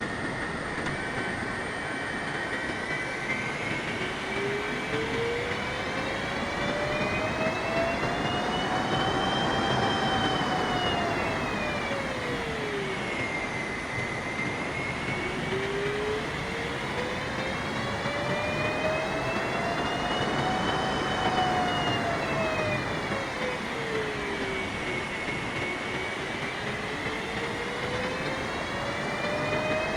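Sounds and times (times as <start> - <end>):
airliner cabin noise: 2.6 - 13.3, 14.4 - 29.9
whining tone: 2.6 - 29.9.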